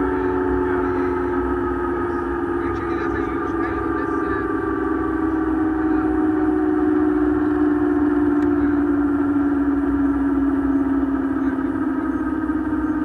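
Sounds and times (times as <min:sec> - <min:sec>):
helicopter engine rumble: 0:00.0 - 0:13.0
helicopter turbine whine: 0:00.0 - 0:13.0.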